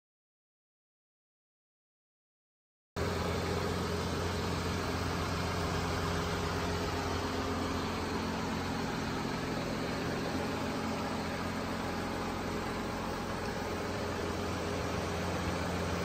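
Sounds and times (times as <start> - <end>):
car engine idling: 3.0 - 16.0.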